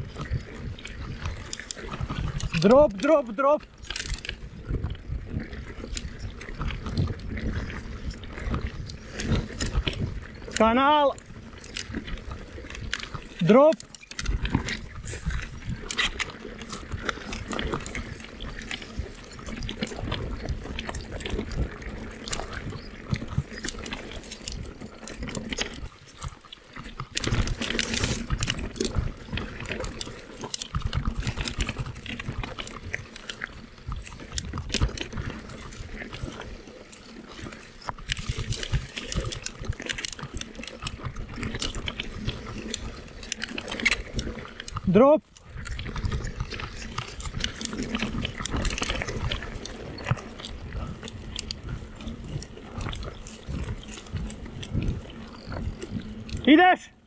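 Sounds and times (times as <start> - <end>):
mountain bike clattering over rocks: 0.0 - 56.9.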